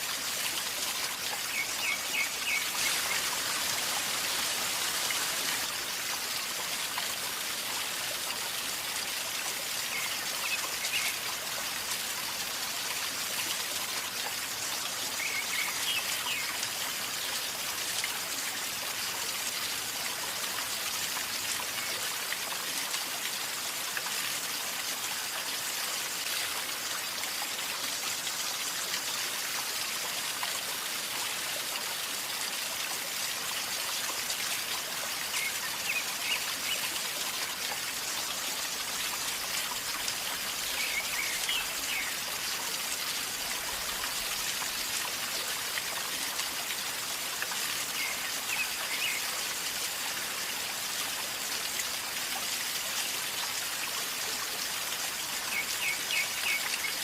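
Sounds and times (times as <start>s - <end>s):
river water gurgling: 0.0s - 57.0s.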